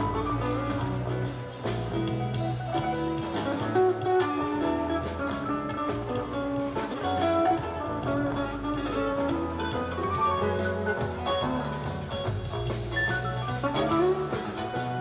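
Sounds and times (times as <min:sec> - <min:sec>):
bass guitar notes: 0:00.0 - 0:15.0
drums: 0:00.0 - 0:15.0
electric guitar lead lines: 0:00.0 - 0:15.0.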